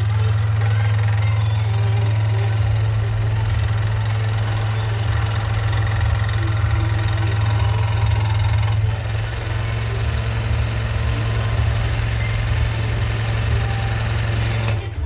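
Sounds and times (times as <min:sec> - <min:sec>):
scroll saw cutting wood: 0:00.0 - 0:15.0.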